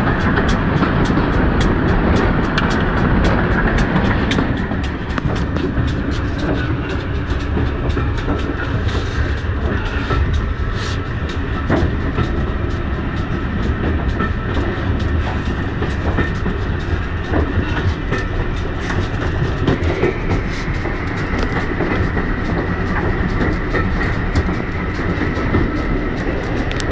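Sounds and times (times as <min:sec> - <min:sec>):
coach rattling: 0:00.0 - 0:26.9
rumble of wheels on rail: 0:00.0 - 0:26.9
track clicks and knocks: 0:00.0 - 0:26.9.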